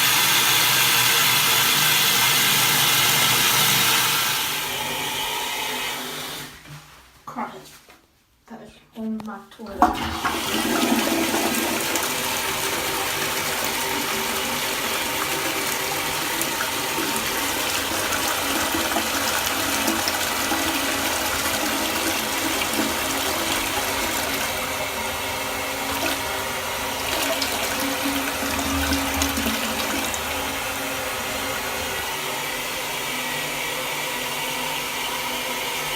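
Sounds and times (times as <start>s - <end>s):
toilet flushing: 0.0s - 6.6s, 9.8s - 35.9s.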